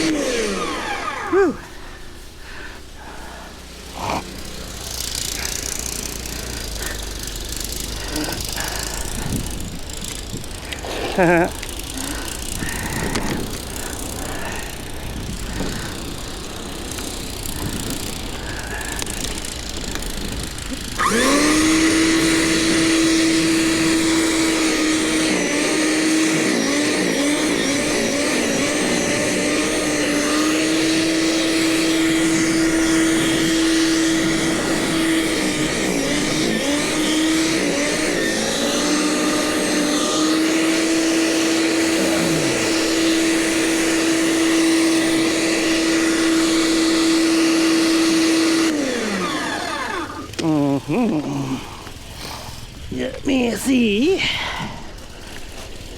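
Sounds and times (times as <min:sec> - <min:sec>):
snowblower motor whine: 0:00.0 - 0:55.9.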